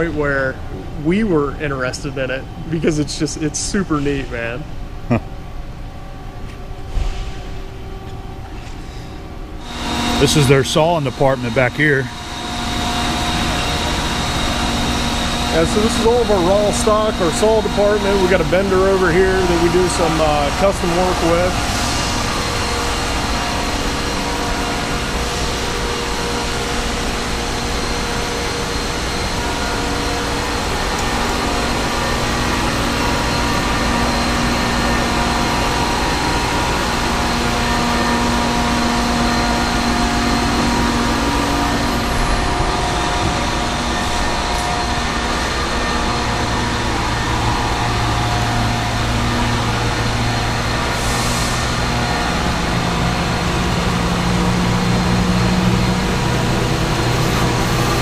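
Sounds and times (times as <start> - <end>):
lower hum: 0.0 - 58.0
machinery humming: 0.0 - 58.0.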